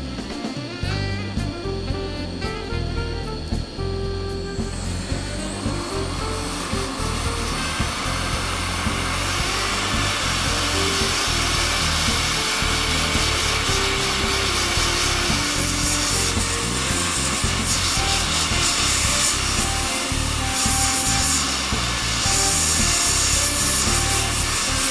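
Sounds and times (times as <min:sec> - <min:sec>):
background music with low beat: 0:00.0 - 0:24.9
hot air blower hissing: 0:00.0 - 0:24.9.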